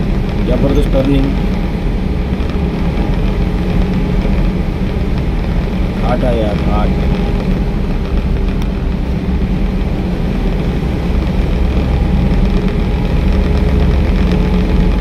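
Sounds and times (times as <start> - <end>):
car engine and tyre drone: 0.0 - 15.0.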